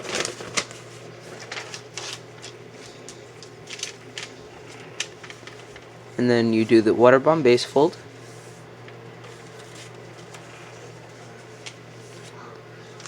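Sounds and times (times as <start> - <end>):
paper rustling and crinkling: 0.0 - 6.8, 7.8 - 13.0.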